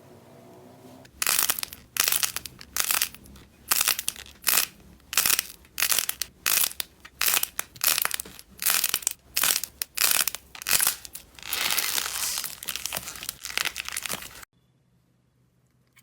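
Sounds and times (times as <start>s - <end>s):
slime crackling when squeezed: 1.2s - 14.5s.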